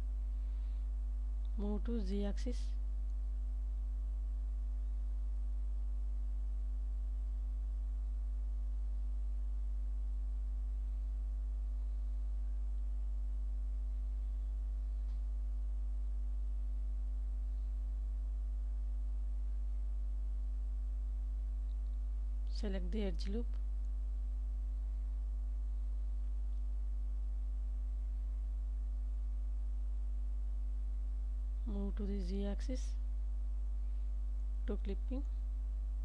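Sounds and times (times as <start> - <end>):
low electrical mains hum: 0.0 - 36.0.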